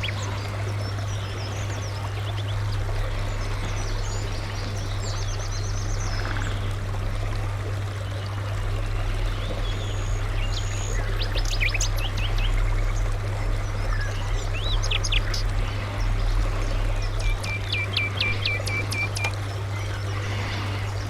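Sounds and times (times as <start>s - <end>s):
small birds chirping: 0.0s - 6.8s, 7.9s - 21.0s
flowing water rushing: 0.0s - 21.0s
low steady hum: 0.0s - 21.0s.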